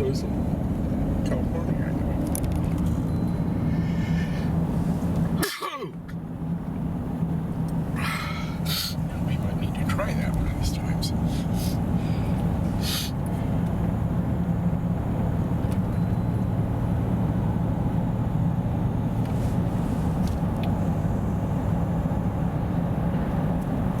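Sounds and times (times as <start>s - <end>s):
vehicle interior drone: 0.0s - 24.0s.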